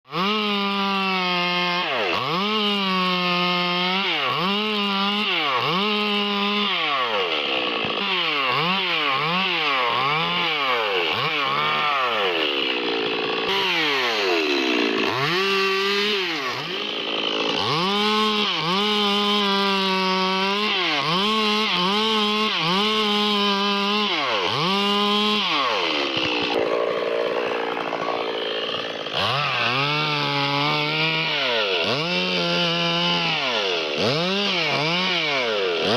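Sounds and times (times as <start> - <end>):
chainsaw cutting wood: 0.1 - 35.9.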